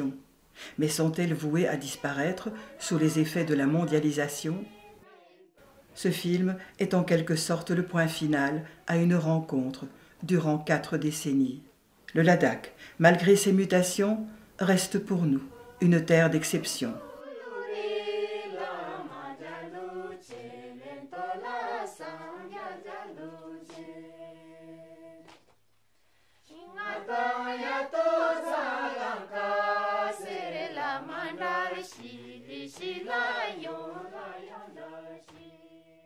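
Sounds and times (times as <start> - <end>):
choral singing: 0.8 - 9.9, 14.6 - 25.4, 26.4 - 36.0.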